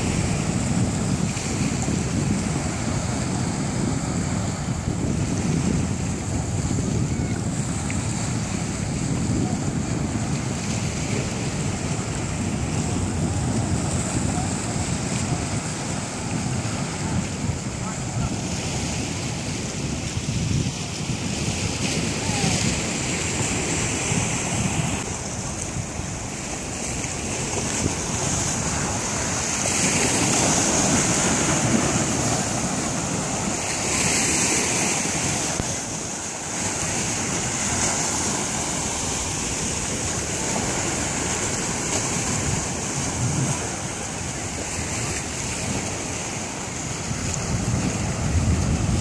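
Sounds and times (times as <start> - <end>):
surf washing on beach: 0.0 - 49.0
wind buffeting microphone: 0.0 - 49.0.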